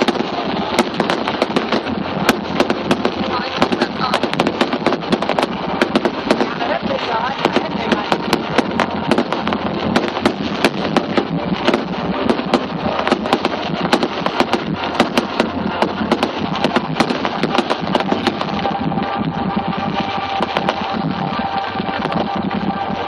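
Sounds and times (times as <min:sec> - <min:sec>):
fireworks cracks and bangs: 0:00.0 - 0:23.0.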